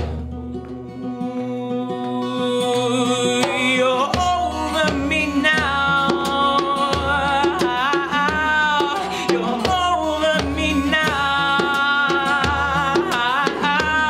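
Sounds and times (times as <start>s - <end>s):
person singing: 0.6s - 14.0s.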